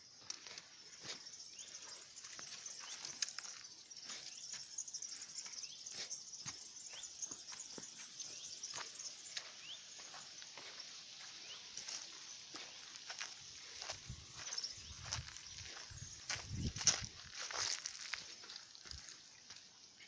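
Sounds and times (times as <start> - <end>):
bird chirps: 0.0 - 20.0
crickets trilling: 0.0 - 20.0.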